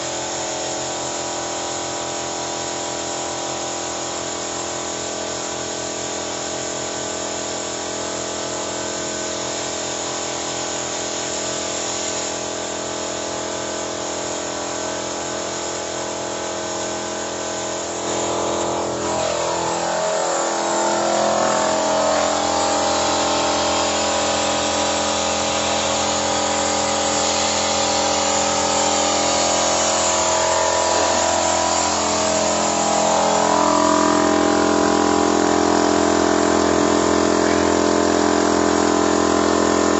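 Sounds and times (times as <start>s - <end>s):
air compressor motor hum: 0.0s - 39.9s
air hissing: 0.0s - 39.9s.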